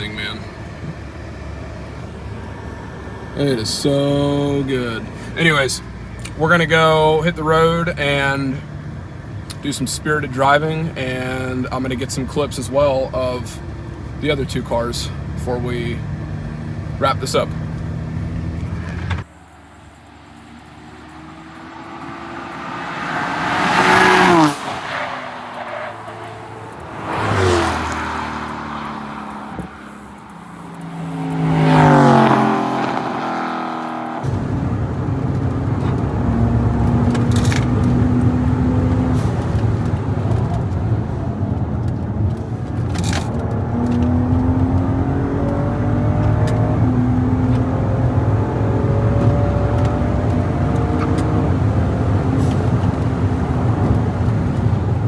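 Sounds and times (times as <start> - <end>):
car engine accelerating: 0.0 - 55.0
cars passing by: 0.0 - 55.0.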